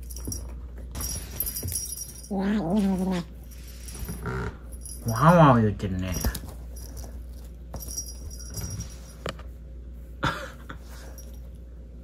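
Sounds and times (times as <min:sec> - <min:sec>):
light metallic jingle: 0:00.0 - 0:09.4, 0:11.0 - 0:11.7.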